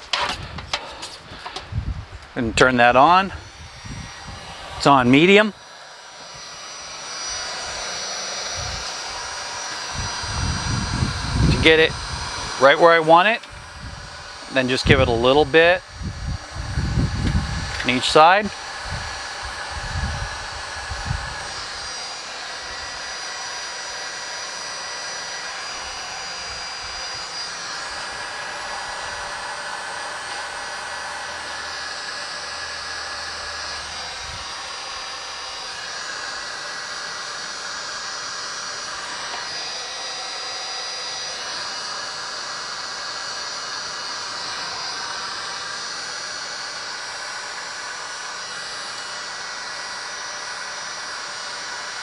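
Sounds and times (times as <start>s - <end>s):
heat gun blowing air: 0.0s - 52.0s.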